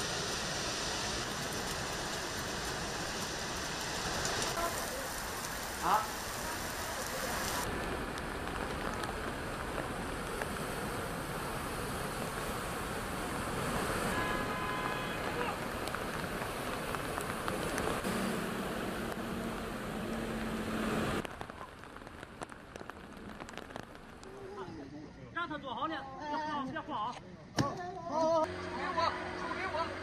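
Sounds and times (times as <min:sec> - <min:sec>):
heavy rain on streets: 0:00.0 - 0:26.0.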